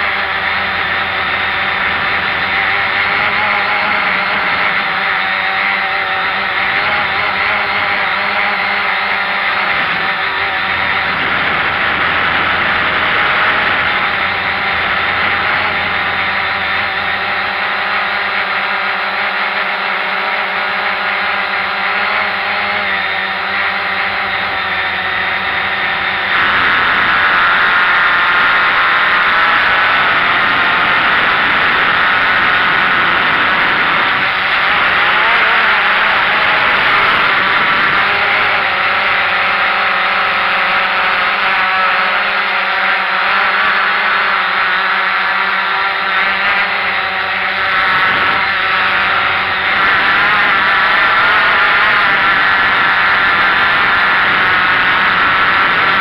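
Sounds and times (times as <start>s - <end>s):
drone motors and propellers: 0.0s - 56.0s.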